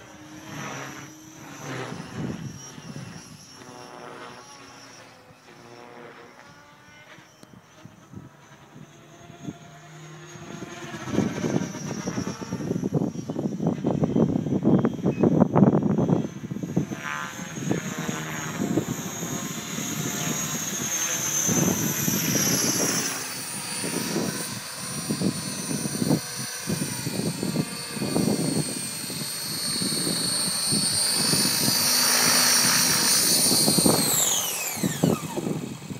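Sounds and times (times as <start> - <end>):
model helicopter motor whine: 0.0 - 35.9.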